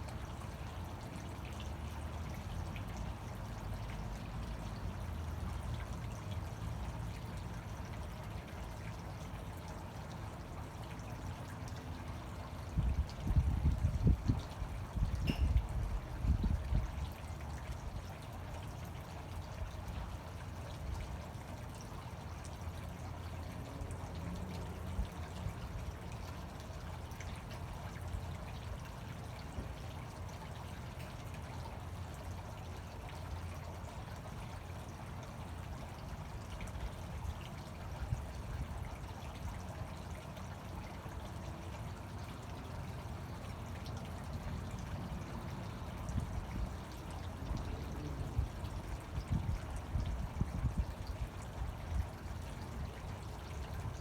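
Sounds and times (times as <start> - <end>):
fountain water splashing: 0.0 - 54.0.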